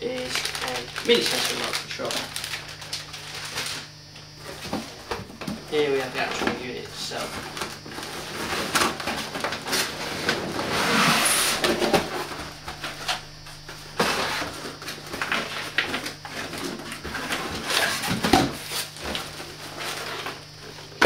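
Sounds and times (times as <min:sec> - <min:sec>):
cardboard and plastic rustling: 0:00.0 - 0:21.0.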